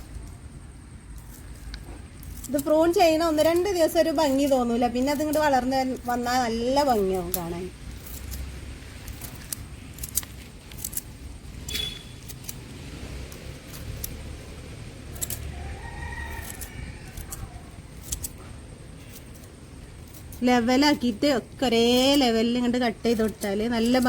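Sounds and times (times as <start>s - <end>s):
scissors snipping stems: 0.0s - 24.0s.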